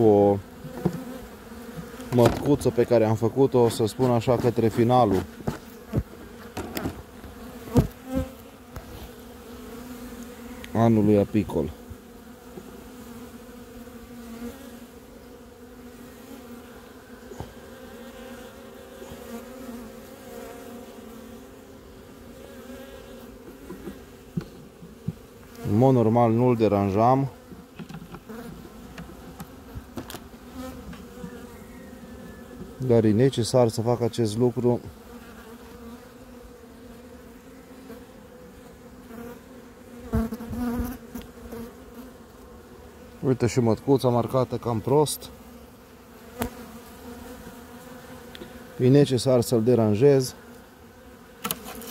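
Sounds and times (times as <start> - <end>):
bees humming: 0.0 - 51.9.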